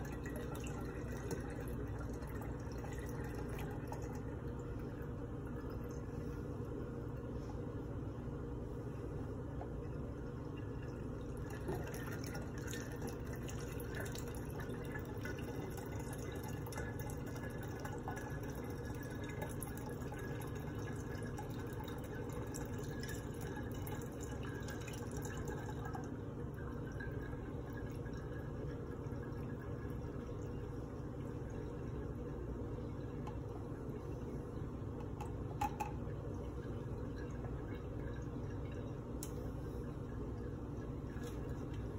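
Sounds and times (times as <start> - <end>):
liquid trickling through a funnel: 0.0 - 8.0, 9.0 - 41.9
low steady hum: 0.0 - 41.9.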